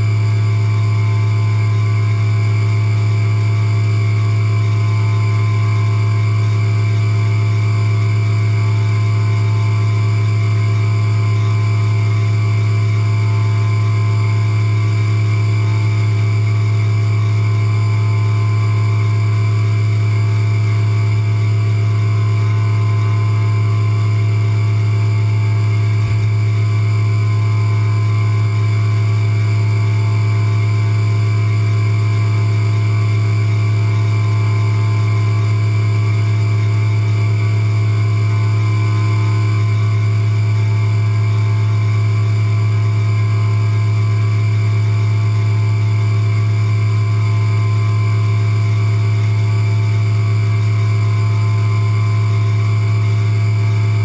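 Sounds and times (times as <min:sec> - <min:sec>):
high spindle whine: 0:00.0 - 0:54.0
milling machine hum: 0:00.0 - 0:54.0.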